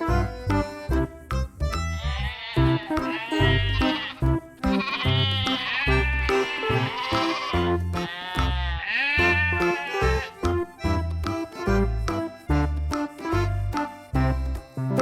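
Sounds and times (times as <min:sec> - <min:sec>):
music with pulsing bass: 0:00.0 - 0:15.0.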